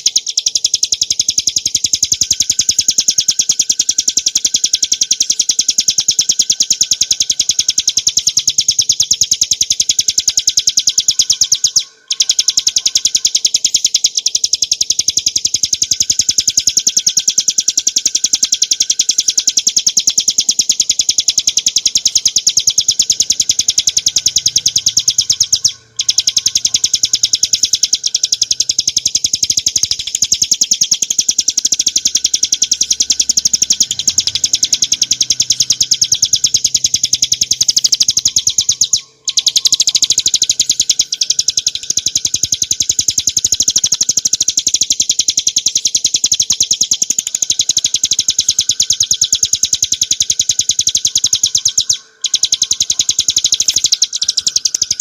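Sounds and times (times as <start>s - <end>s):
bird singing rapid trill: 0.0s - 55.0s.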